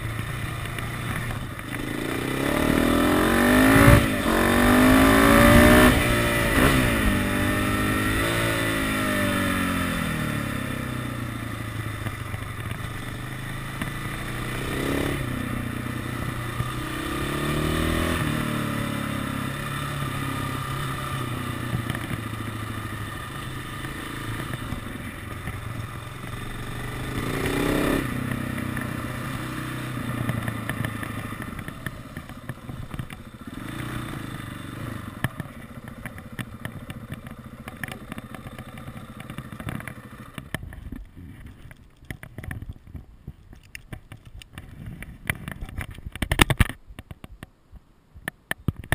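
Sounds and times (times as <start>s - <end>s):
motorcycle engine revving: 0.0s - 42.7s.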